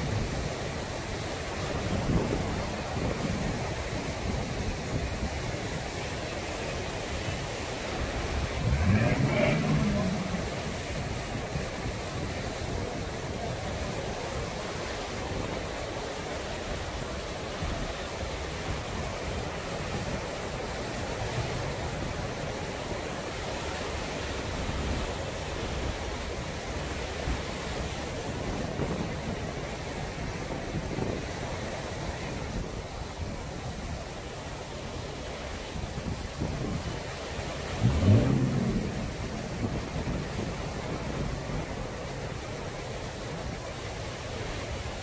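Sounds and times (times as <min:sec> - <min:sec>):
waves washing up a beach: 0:00.0 - 0:45.0.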